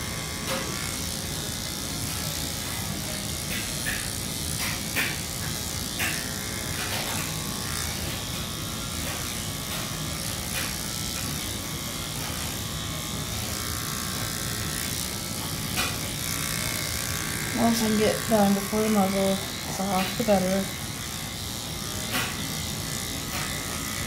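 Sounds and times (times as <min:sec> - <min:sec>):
electric clippers buzzing: 0:00.0 - 0:24.0.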